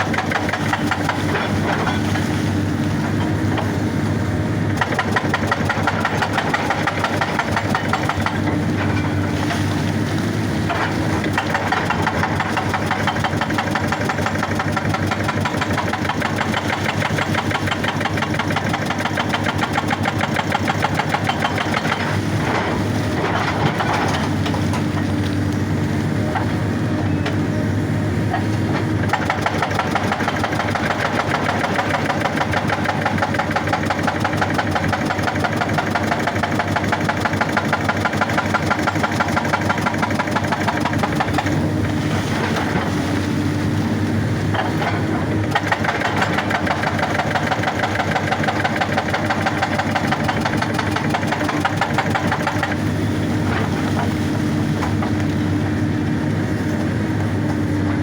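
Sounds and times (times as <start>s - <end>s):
hydraulic breaker hammering rock: 0.0s - 4.0s, 4.6s - 25.2s, 28.2s - 43.5s, 44.4s - 55.3s
diesel engine running under load: 0.0s - 58.0s.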